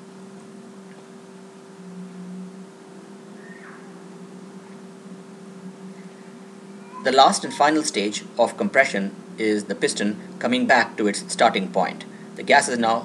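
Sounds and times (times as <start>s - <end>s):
faint hiss: 0.0s - 13.0s
low electrical hum: 0.0s - 13.0s.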